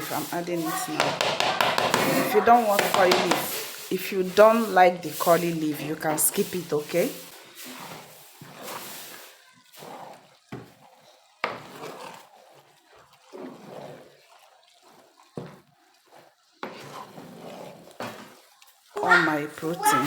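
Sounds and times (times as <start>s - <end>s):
scraping and stirring in pot: 0.0s - 20.0s.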